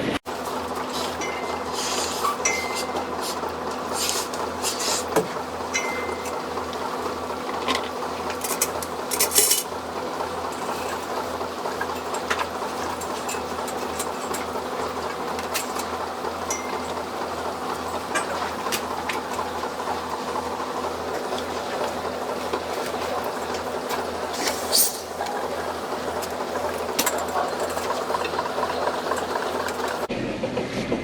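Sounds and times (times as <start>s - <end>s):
milking equipment humming: 0.0s - 30.1s
metal clinks and clanks: 0.5s - 30.1s.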